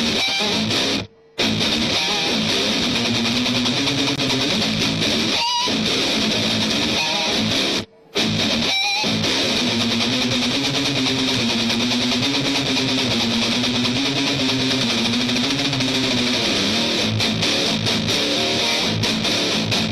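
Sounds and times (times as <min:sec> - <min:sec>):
electric guitar riff: 0:00.0 - 0:19.9.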